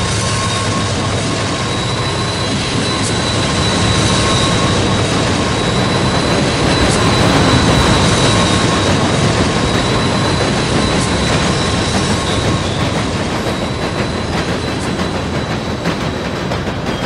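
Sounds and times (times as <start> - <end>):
thin high whine: 0.0 - 16.1
model train engine rumble: 0.0 - 17.0.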